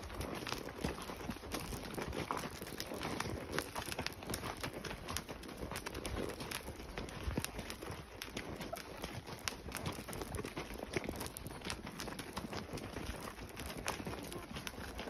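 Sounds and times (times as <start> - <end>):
hooves clopping on gravel: 0.0 - 15.0.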